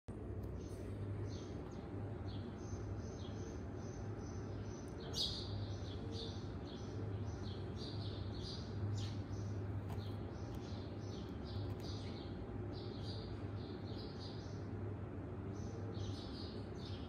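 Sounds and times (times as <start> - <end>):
steady low hum: 0.1 - 17.0
small birds chirping: 0.3 - 17.0.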